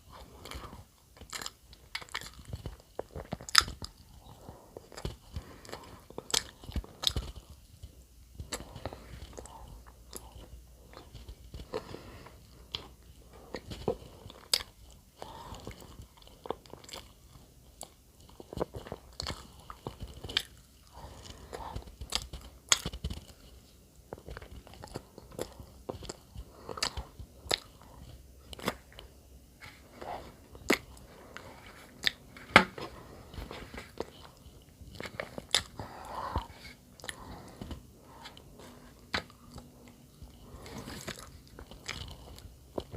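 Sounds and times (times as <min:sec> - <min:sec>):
person chewing soft bread: 0:00.0 - 0:42.9.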